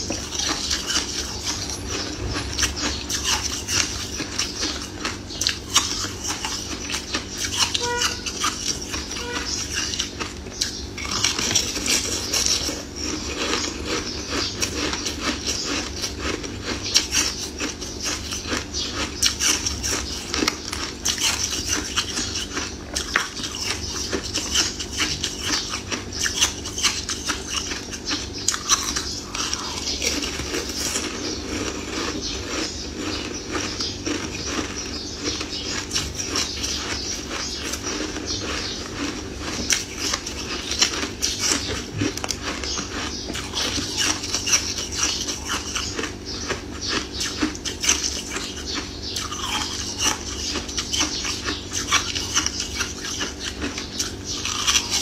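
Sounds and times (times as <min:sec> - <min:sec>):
chewing crunchy treat: 0:00.0 - 0:55.0
steady low hum: 0:00.0 - 0:55.0.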